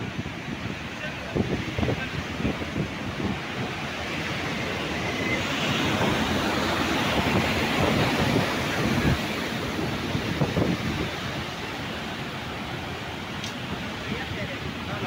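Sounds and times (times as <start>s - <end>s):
water rushing through spillway: 0.0s - 15.0s
wind buffeting microphone: 0.0s - 15.0s.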